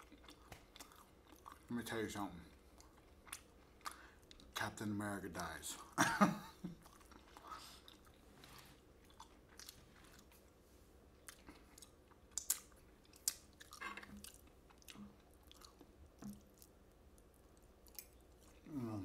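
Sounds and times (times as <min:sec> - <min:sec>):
man chewing food: 0:00.0 - 0:04.6, 0:05.8 - 0:19.0.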